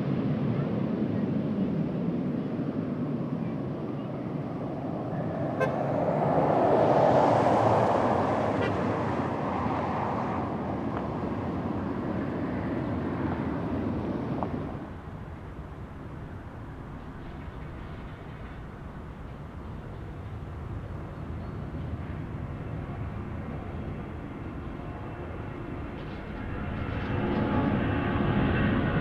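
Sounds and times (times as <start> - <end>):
jet plane landing: 0.0 - 29.0.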